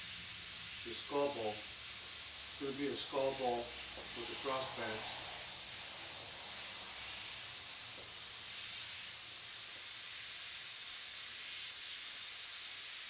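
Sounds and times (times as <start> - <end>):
airbrush hissing: 0.0 - 13.0.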